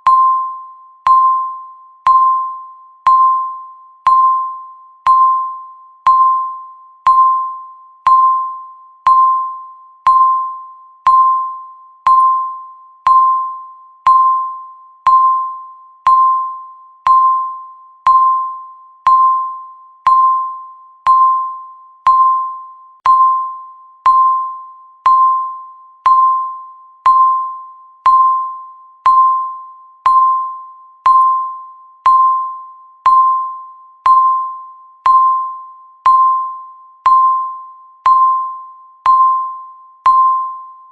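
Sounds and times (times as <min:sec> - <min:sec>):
countdown timer beeping: 0:00.0 - 0:40.8.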